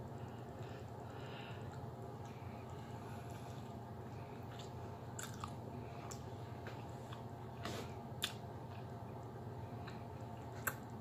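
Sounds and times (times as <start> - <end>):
steady low hum: 0.0 - 11.0
person chewing meat: 0.1 - 11.0.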